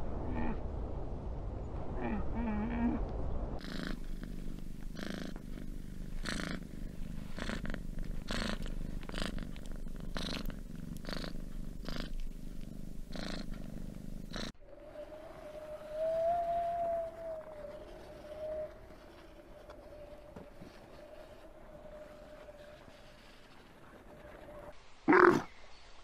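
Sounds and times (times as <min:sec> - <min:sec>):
cat purring: 0:03.6 - 0:24.7.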